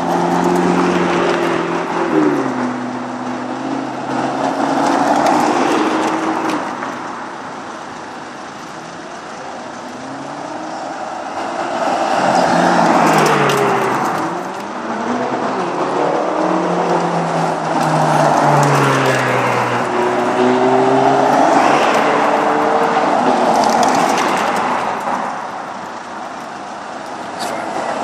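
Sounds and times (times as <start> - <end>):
sports cars revving past: 0.0 - 28.0.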